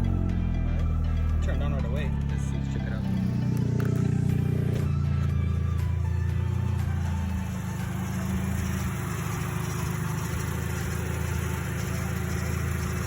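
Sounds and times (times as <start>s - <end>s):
car engine idling unevenly: 0.0s - 13.0s.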